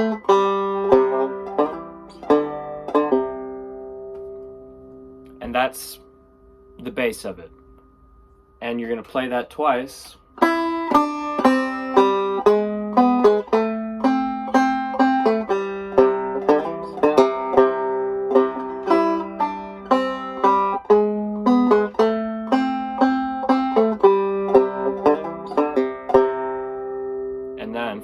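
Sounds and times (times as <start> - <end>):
banjo playing: 0.0 - 28.0.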